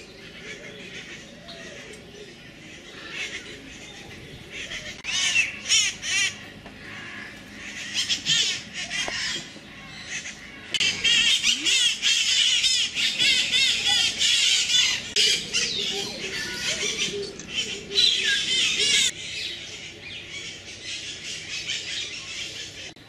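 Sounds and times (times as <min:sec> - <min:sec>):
birds squawking: 0:00.0 - 0:23.0.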